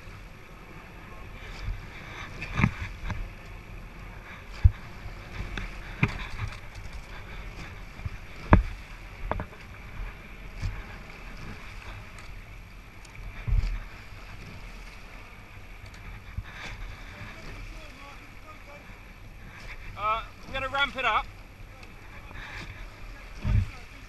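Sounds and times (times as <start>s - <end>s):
water rushing against hull: 0.0s - 24.0s
oars knocking: 1.2s - 24.0s.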